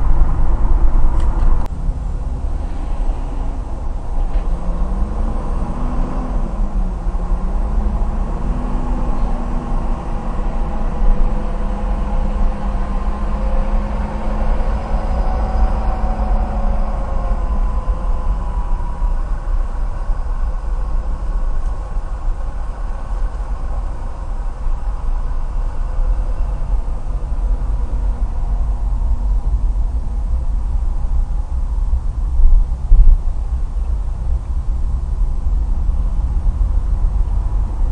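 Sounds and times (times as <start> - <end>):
car engine hum: 0.0 - 37.9
road rumble inside car: 0.0 - 37.9.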